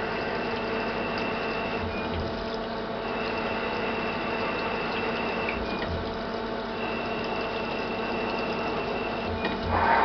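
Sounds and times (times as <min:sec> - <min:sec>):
coolant splashing: 0:00.0 - 0:10.0
high steady machine whine: 0:00.0 - 0:10.0
machine hum: 0:00.0 - 0:10.0.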